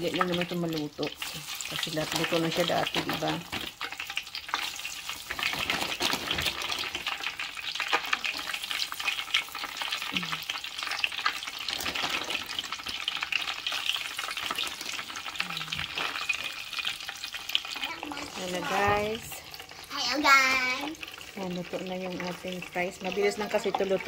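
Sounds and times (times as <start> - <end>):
fries sizzling in hot oil: 0.0 - 24.0.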